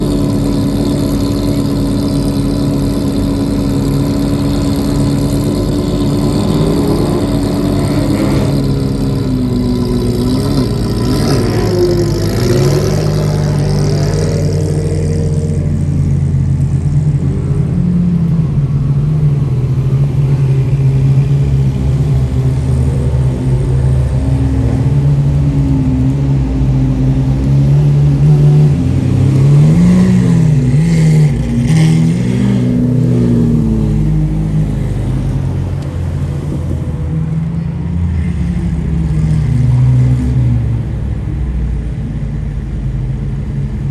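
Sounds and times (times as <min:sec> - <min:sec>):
engine revving: 0:00.0 - 0:40.9
car engines running: 0:00.0 - 0:43.9.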